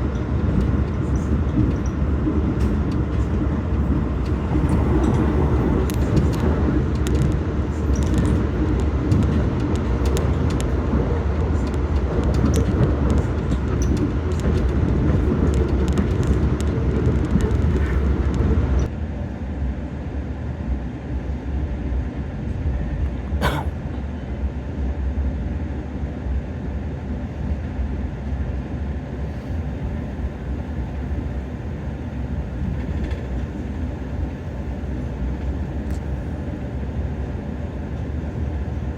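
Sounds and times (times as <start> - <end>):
passenger train rumbling: 0.0 - 38.9.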